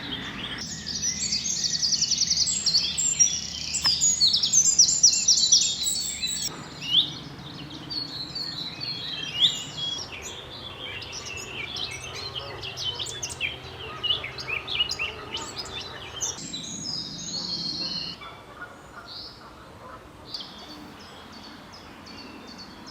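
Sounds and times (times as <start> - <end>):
songbirds chirping and trilling: 0.0 - 22.9.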